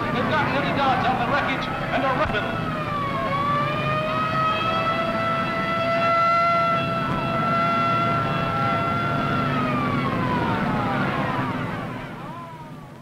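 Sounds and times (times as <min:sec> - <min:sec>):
low crowd murmur: 0:00.0 - 0:13.0
siren wailing: 0:00.0 - 0:13.0.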